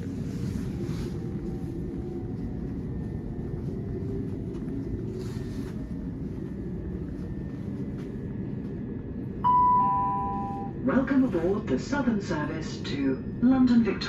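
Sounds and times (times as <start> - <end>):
train carriage rumble: 0.0 - 14.0
faint steady whine: 0.2 - 13.8.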